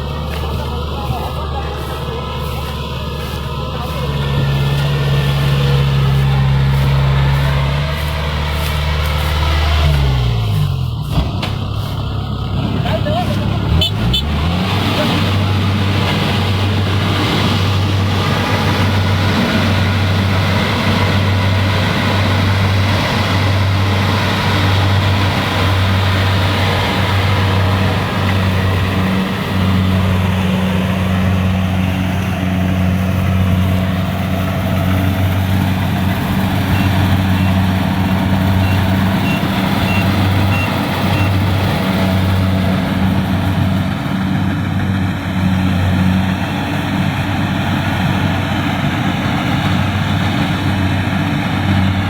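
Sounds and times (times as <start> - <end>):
combine harvester diesel engine: 0.0 - 52.0.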